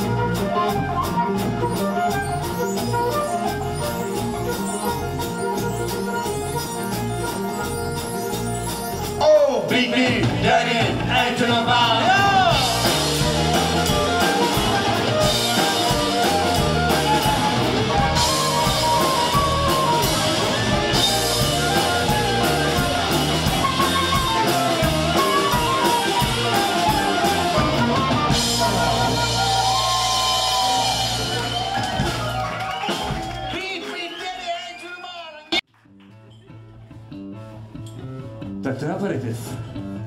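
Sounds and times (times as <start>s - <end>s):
instrumental rock and roll music: 0.0s - 34.0s, 36.0s - 40.0s.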